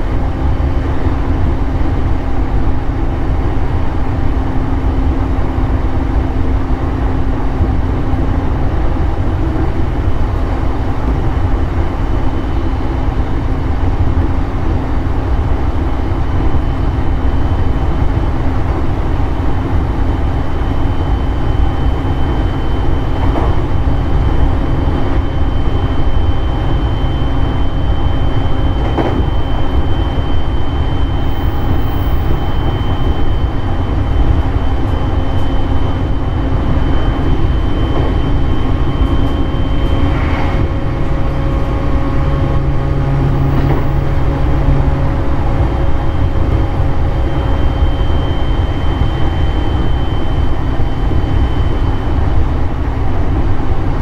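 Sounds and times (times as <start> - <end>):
low hums: 0.0 - 53.9
high train whine: 0.0 - 54.0
wheels rumbling on rail: 0.0 - 54.0.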